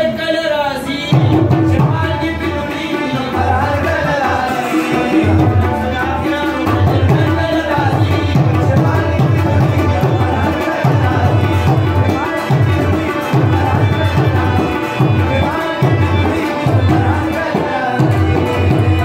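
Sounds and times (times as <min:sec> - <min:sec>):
harmonium: 0:00.0 - 0:19.0
tabla drumming: 0:00.9 - 0:19.0.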